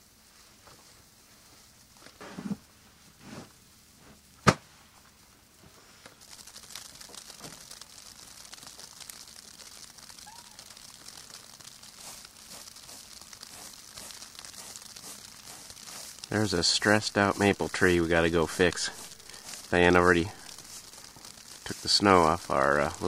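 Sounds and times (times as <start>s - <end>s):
wet snow falling: 0.0s - 23.0s.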